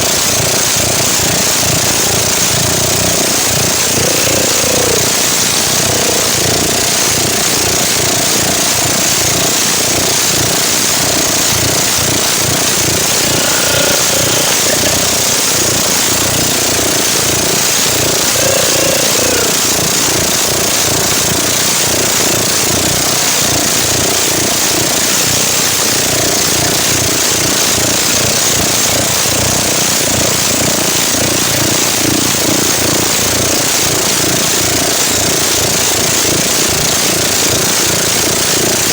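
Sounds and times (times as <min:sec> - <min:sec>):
scooter engine running hard: 0:00.0 - 0:38.9.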